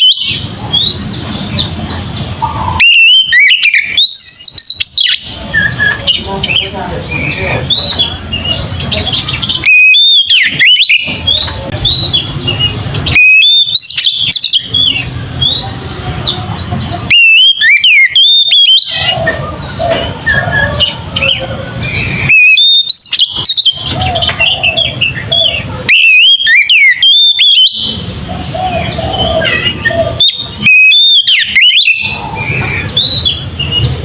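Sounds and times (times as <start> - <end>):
bird singing whistled phrases: 0.0 - 34.0
soft bird chirping: 0.0 - 34.0.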